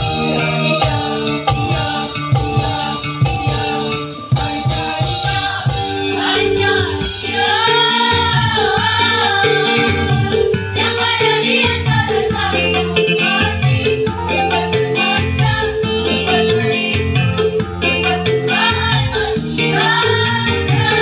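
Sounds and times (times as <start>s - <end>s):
choir singing: 0.0s - 21.0s
instrumental accompaniment with beat: 0.0s - 21.0s.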